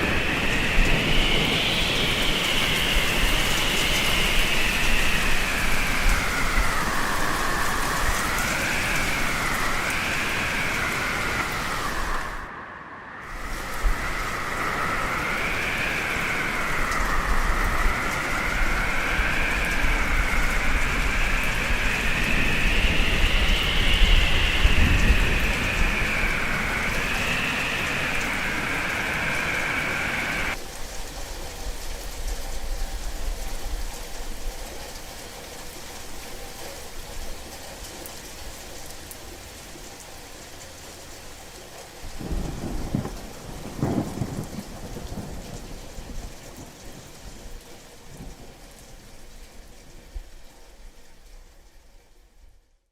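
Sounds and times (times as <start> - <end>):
thunder rumble: 0.0 - 34.5, 42.0 - 50.4
howling wind: 0.0 - 52.7
steady rain: 0.0 - 52.9.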